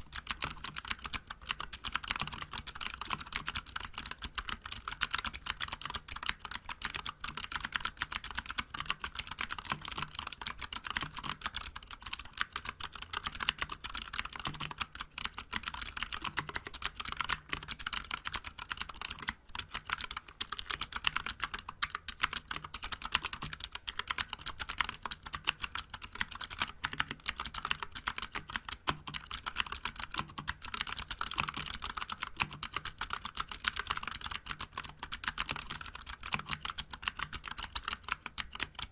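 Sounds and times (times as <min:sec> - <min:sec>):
fast typing on clicky keyboard: 0:00.0 - 0:38.9.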